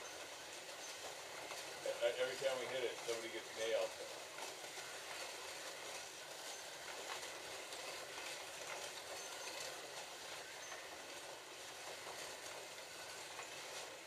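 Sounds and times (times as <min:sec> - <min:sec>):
slot cars whirring on track: 0:00.0 - 0:14.0.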